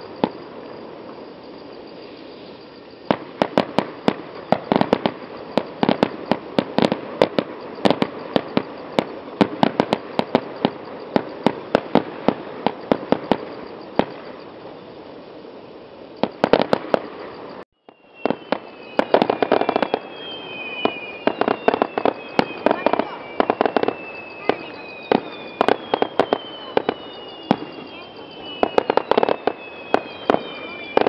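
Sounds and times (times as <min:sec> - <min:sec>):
fireworks bursting and crackling: 0:00.0 - 0:31.0
thin high tone: 0:00.0 - 0:31.0.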